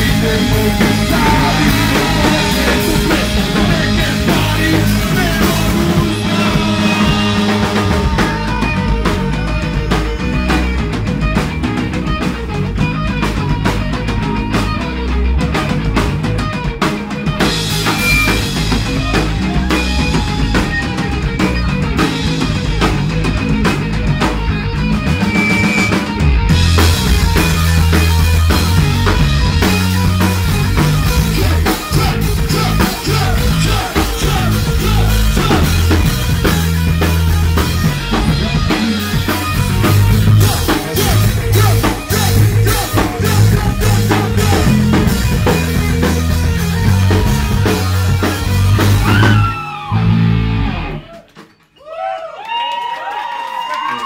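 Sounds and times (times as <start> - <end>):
rock band playing live: 0.0 - 51.8.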